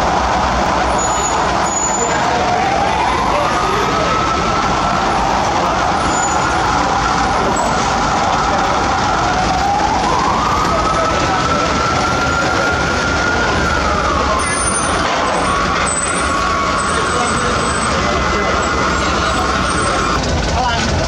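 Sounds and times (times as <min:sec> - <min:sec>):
truck engine whining: 0:00.0 - 0:21.0.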